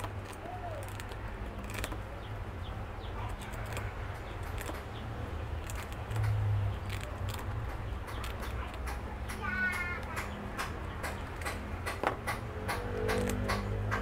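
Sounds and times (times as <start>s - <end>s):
hamster crunching bread: 0.0s - 14.0s.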